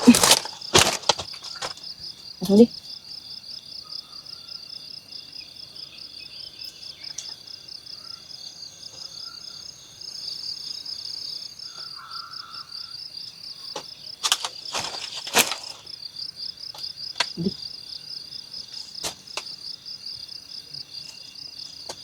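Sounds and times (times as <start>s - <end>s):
insects chirping trill: 0.0s - 22.0s.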